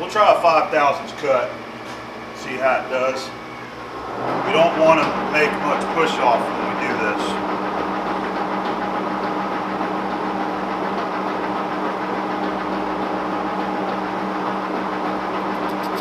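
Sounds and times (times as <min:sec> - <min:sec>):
lathe humming: 0:00.0 - 0:16.0.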